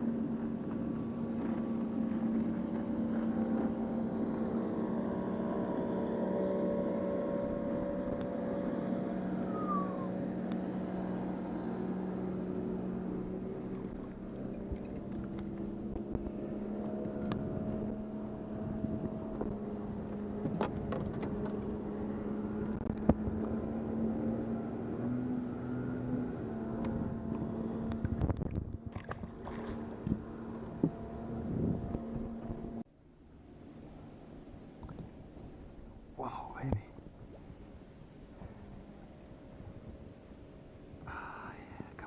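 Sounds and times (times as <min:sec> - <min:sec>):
boat motor humming: 0:00.0 - 0:42.0.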